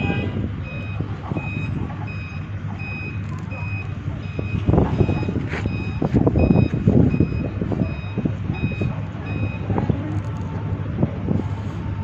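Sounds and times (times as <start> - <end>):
reversing alarm beeping: 0.0 - 10.8
low rumbling noise: 0.0 - 12.0.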